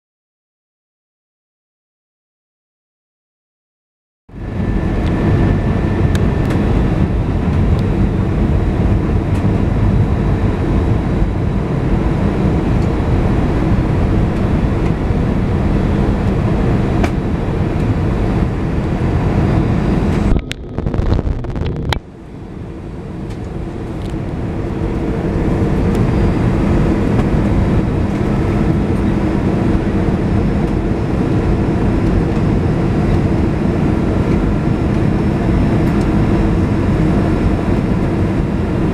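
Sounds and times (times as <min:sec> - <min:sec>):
jet engine cabin roar: 0:04.3 - 0:38.9.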